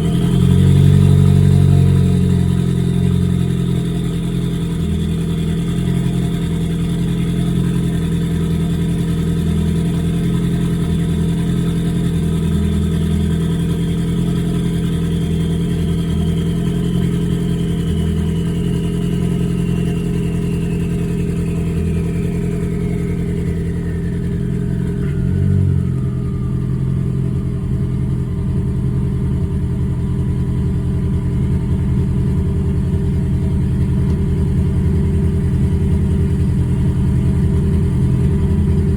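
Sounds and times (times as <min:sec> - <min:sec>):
faint high whine: 0:00.0 - 0:37.0
car engine idling: 0:00.0 - 0:38.9.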